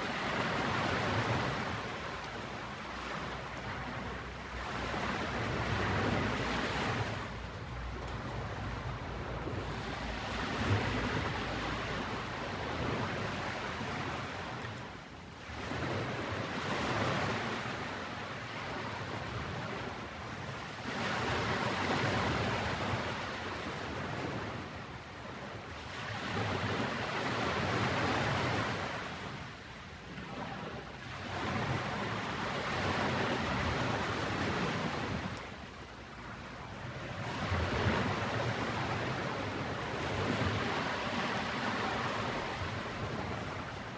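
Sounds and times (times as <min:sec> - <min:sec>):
ocean waves breaking on a beach: 0:00.0 - 0:43.9.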